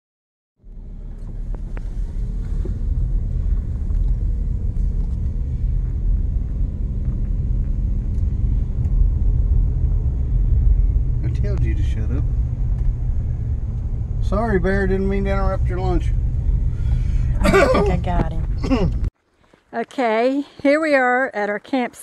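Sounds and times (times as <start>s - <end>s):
car engine and tyres rumbling: 0.6s - 19.6s.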